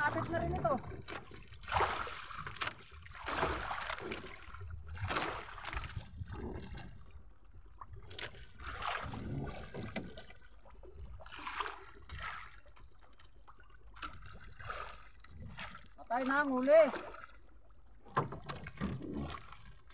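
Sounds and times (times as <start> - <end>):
water splashing against boat: 0.0 - 19.9.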